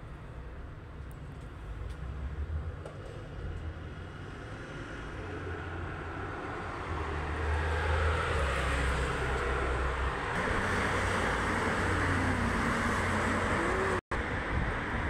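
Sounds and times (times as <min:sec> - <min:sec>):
low traffic rumble: 0:00.0 - 0:15.0
vehicle approaching: 0:01.6 - 0:15.0.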